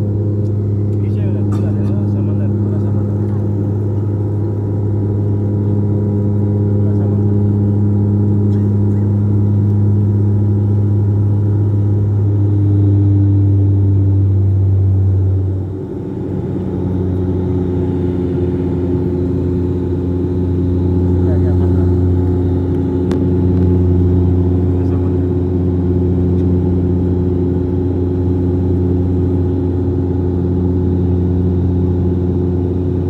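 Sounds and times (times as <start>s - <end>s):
turboprop engines droning: 0.0s - 33.0s.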